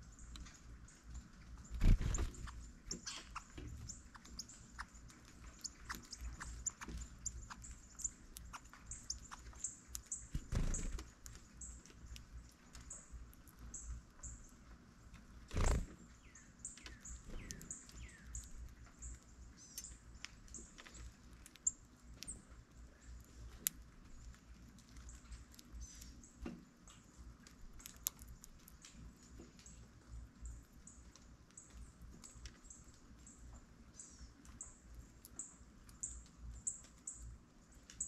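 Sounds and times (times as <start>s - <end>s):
songbirds chipping: 0.0s - 38.0s.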